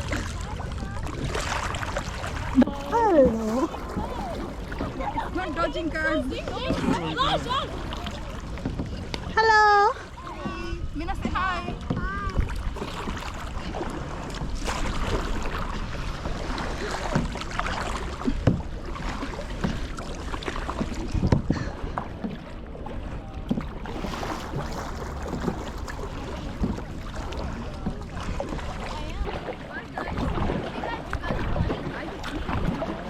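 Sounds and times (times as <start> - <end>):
wind on microphone: 0.0 - 20.0, 20.7 - 33.0
paddle splashing in water: 0.0 - 33.0
paddle knocks: 1.0 - 32.9.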